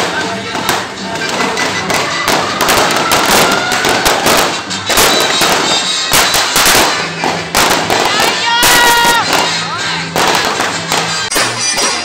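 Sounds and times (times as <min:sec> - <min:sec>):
firecrackers popping: 0:00.0 - 0:12.0
music playing: 0:00.0 - 0:12.0.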